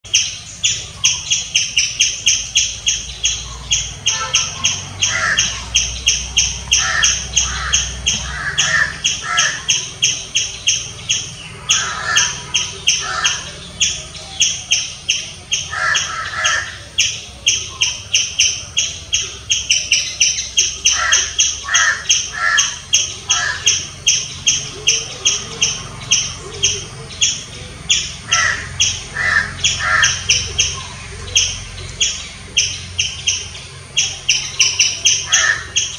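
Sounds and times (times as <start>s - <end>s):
squirrel chirping: 0.0s - 35.9s.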